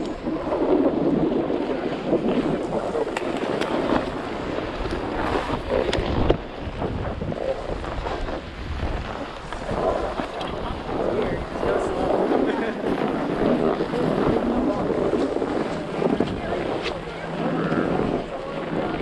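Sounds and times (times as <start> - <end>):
snowboard scraping over snow: 0.0 - 19.0
wind buffeting microphone: 0.0 - 19.0.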